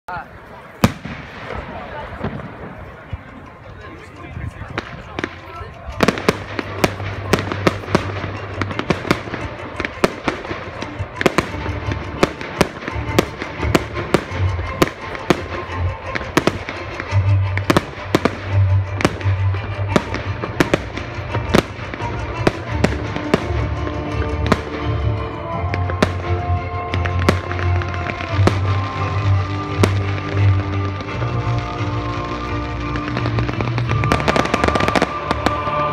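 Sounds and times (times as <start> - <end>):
fireworks bursting: 0.7 - 3.6, 4.6 - 35.9.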